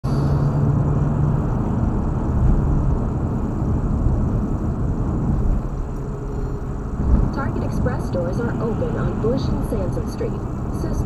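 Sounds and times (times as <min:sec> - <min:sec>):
car road noise at highway speed: 0:00.0 - 0:11.0
low engine hum: 0:00.0 - 0:11.0.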